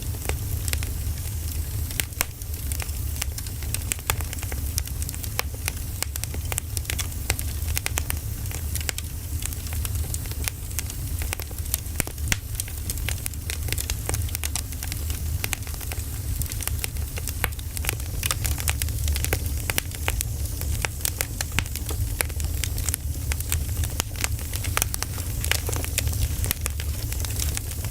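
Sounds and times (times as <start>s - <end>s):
low fire rumble: 0.0s - 27.9s
wood fire crackling: 0.0s - 27.9s.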